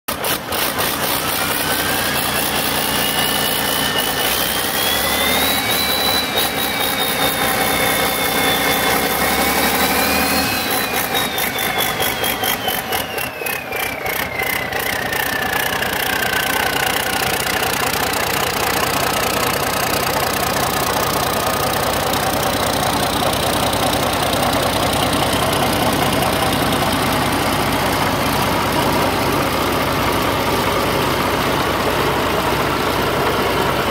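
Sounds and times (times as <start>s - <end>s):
diesel engine whining and idling: 0.1s - 33.9s.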